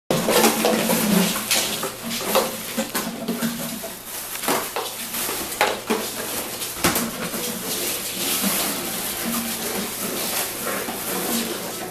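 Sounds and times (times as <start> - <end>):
plastic bottles clattering and crinkling: 0.1 - 11.9.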